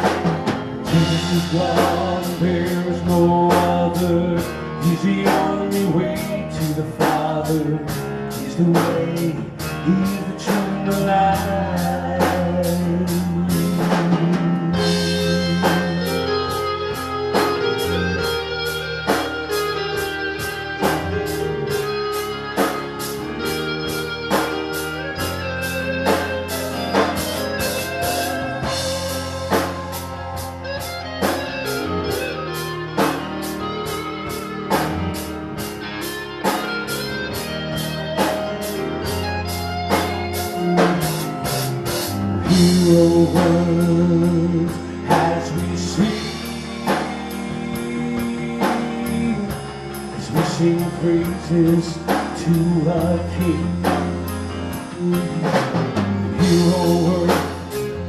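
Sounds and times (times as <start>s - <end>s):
drum kit beat: 0.0s - 58.0s
guitar: 0.0s - 58.0s.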